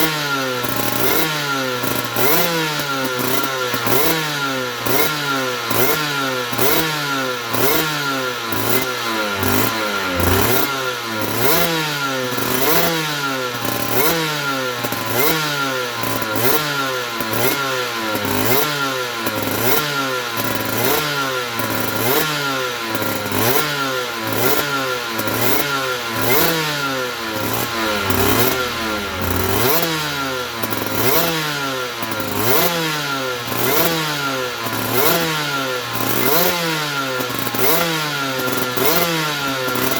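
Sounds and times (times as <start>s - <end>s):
two-stroke engine revving in blips: 0.0s - 39.9s.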